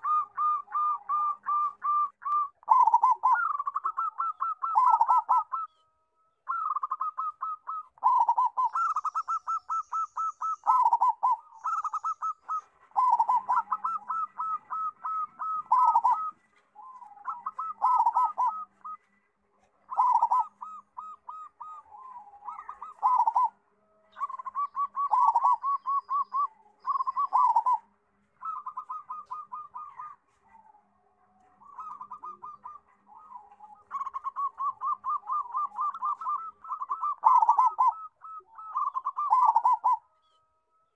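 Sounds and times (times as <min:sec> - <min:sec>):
dove cooing: 0:00.0 - 0:05.8, 0:06.5 - 0:40.0.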